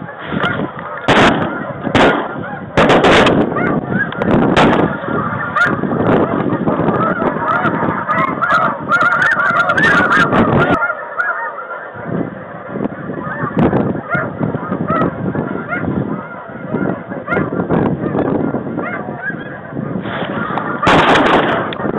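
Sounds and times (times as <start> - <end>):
snow geese honking: 0.0 - 21.9.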